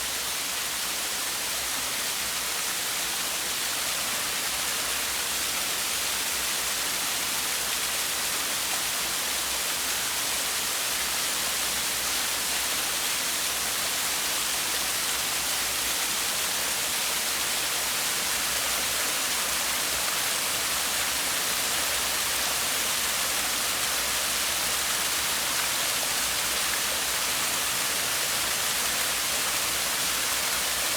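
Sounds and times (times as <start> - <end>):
water pouring over small waterfall: 0.2 - 30.9.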